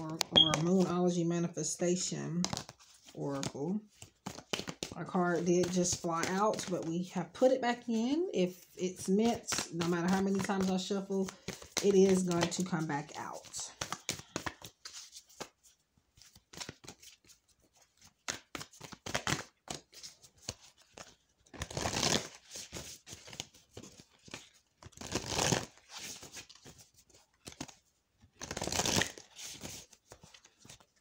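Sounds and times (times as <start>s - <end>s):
cards being shuffled: 0.0s - 0.9s, 2.4s - 8.2s, 8.9s - 31.0s.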